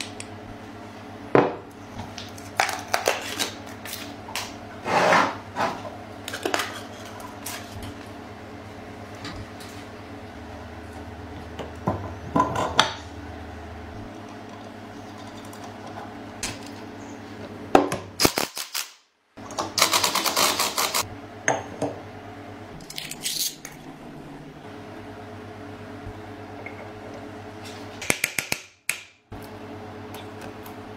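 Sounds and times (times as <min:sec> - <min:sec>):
steady low hum: 0:00.0 - 0:18.5, 0:20.7 - 0:30.9.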